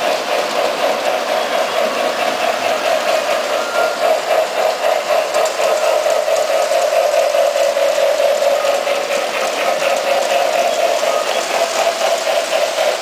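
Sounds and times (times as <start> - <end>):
model train motor whine: 0.0 - 13.0
wheels clicking over rail joints: 0.0 - 13.0.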